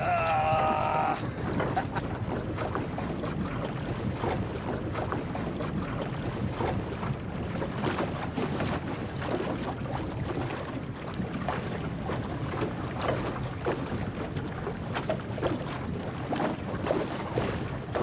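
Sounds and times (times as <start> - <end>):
short irregular splashes: 0.0 - 18.0
water rushing along a hull: 0.0 - 18.0
wind buffeting microphone: 0.0 - 18.0.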